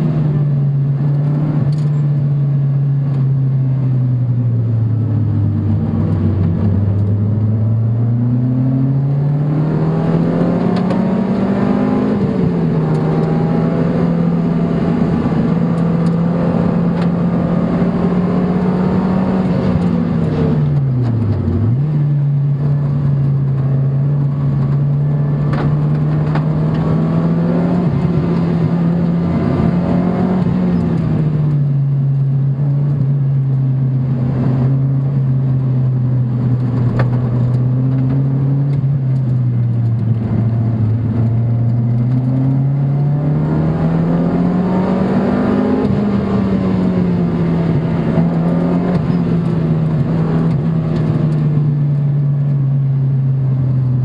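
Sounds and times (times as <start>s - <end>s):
car engine running hard: 0.0s - 54.0s
road and wind noise: 0.0s - 54.0s.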